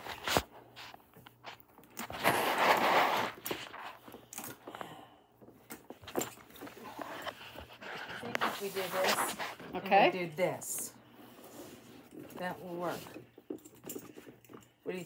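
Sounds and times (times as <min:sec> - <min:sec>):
tool bag rustling and scraping: 0:00.0 - 0:15.0.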